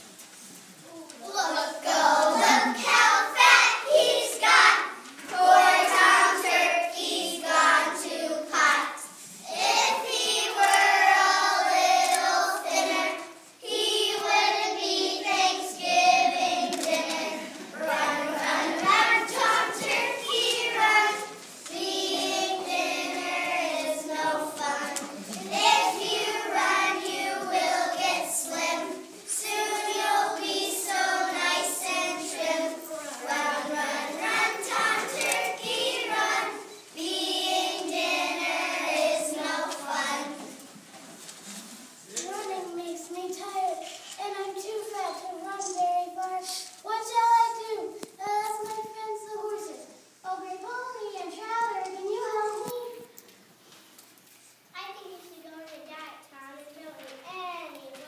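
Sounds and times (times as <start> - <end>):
young children singing: 0.8 - 40.8, 42.1 - 53.2.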